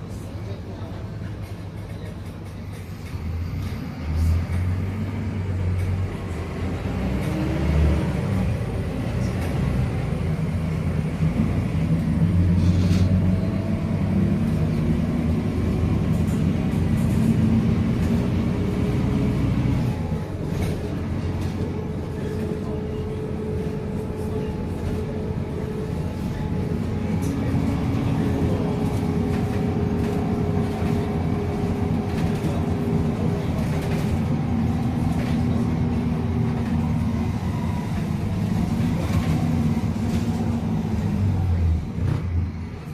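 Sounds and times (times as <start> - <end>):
bus engine drone: 0.0 - 42.9
road noise: 0.0 - 42.9.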